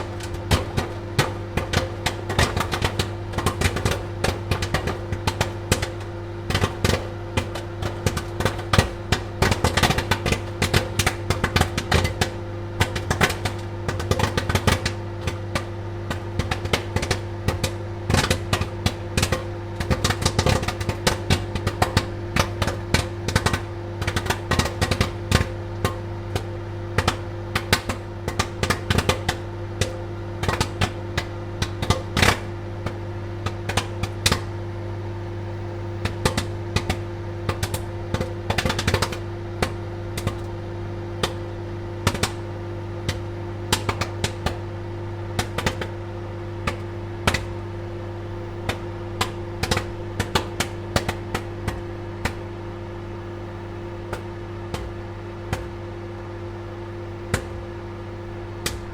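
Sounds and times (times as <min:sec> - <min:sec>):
popcorn kernels popping: 0:00.0 - 0:58.0, 0:58.6 - 0:58.9
appliance humming: 0:00.0 - 0:58.9.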